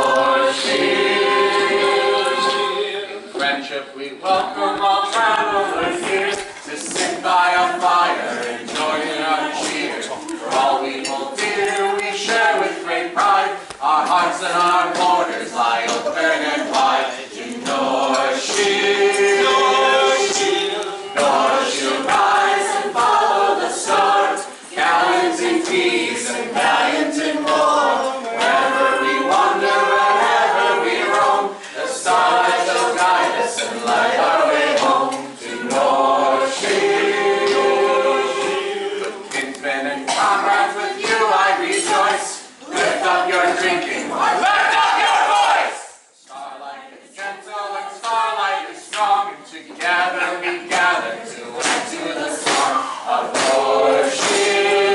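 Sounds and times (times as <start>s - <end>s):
group of voices singing along: 0.0s - 54.9s.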